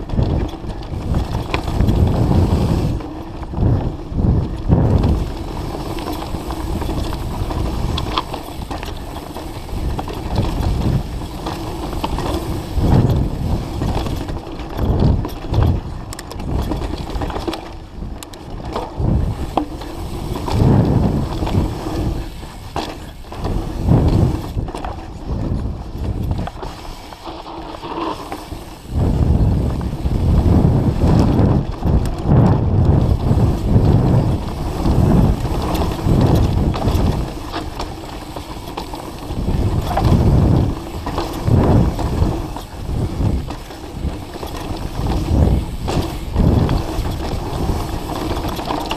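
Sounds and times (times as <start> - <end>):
bike chain and frame rattling: 0.0 - 48.9
bike tyres rumbling over dirt: 0.0 - 48.9.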